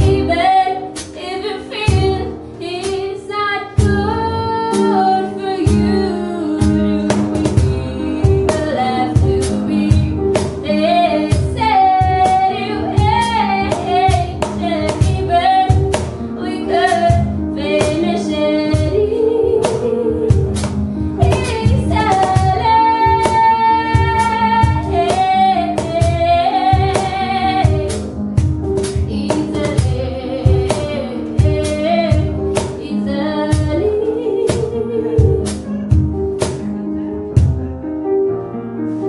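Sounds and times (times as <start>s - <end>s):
woman singing: 0.0s - 28.1s, 28.9s - 35.8s
cajon beats: 0.0s - 37.8s
upright piano: 0.0s - 39.0s.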